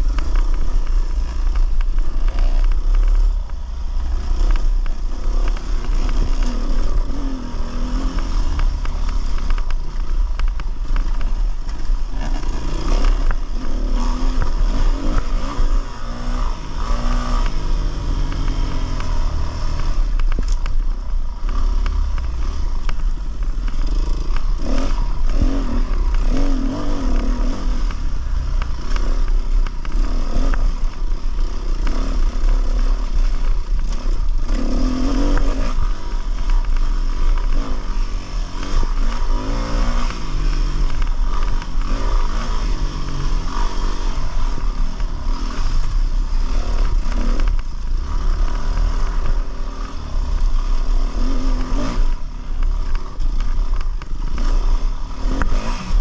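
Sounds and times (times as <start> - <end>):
dirt bike engine revving: 0.0 - 56.0
rocks and bike clattering: 0.0 - 56.0.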